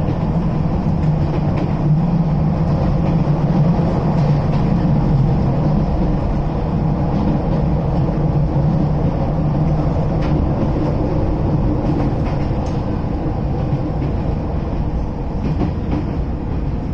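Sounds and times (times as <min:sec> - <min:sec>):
electric train rumble: 0:00.0 - 0:16.9
gangway connection rattling: 0:00.0 - 0:16.9.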